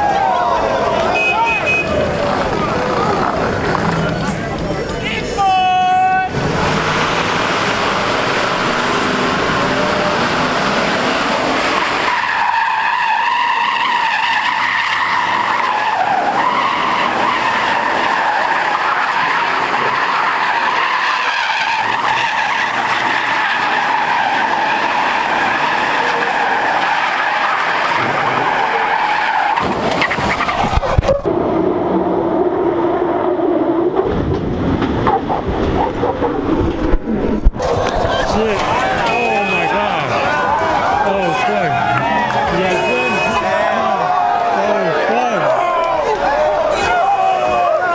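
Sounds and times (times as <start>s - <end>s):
car tyres squealing: 0.0s - 31.3s, 37.6s - 47.9s.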